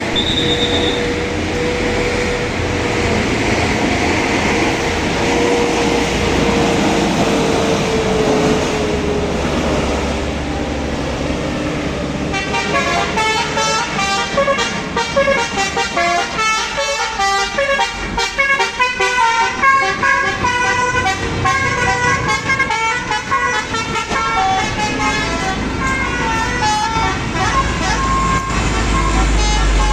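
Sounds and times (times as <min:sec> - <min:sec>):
multi-tone bus horn tune: 0:00.0 - 0:08.7, 0:12.1 - 0:29.9
bus engine labouring: 0:00.0 - 0:29.9.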